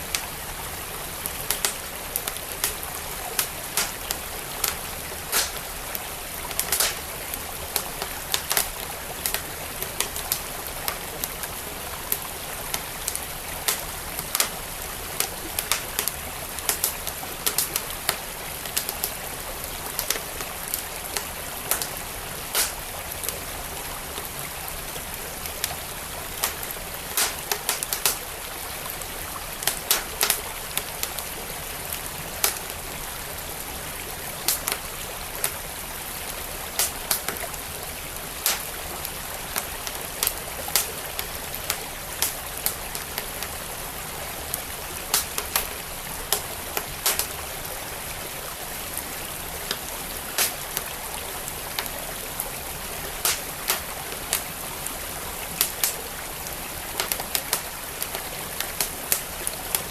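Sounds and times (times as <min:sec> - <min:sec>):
stream flowing: 0:00.0 - 0:59.9
wood fire crackling: 0:00.0 - 0:59.9.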